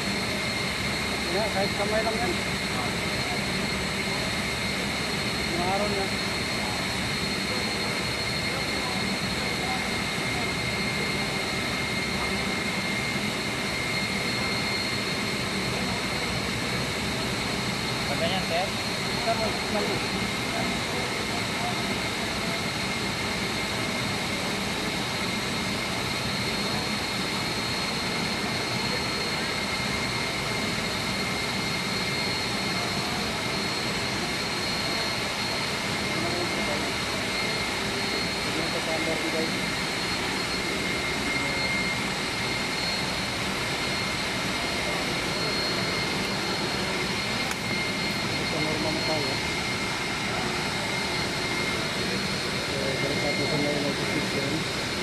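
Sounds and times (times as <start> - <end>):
high whine: 0.0 - 55.0
machinery drone: 0.0 - 55.0.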